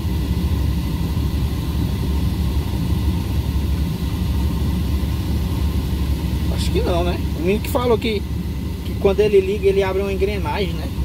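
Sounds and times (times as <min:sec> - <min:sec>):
air-conditioning fan hissing: 0:00.0 - 0:11.0
car engine idling: 0:00.0 - 0:11.0.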